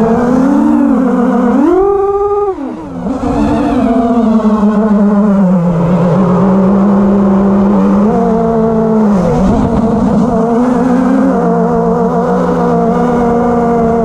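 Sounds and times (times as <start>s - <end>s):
quadcopter motors buzzing: 0.0s - 14.0s.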